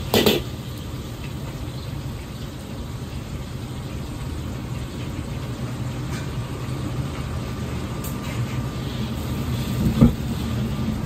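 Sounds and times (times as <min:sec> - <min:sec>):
gas burner roaring: 0:00.0 - 0:11.0
ginger frying in oil: 0:00.0 - 0:11.0.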